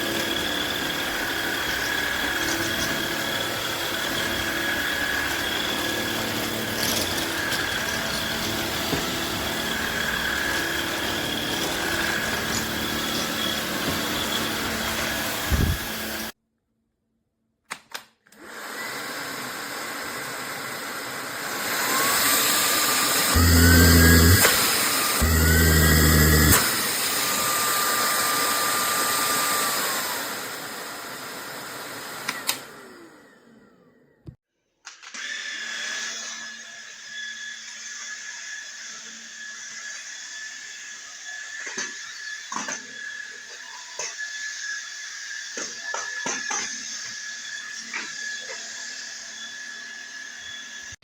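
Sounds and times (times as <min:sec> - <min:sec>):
stick vacuum cleaner motor whine: 0:00.0 - 0:16.4, 0:18.4 - 0:34.4, 0:35.1 - 0:51.0.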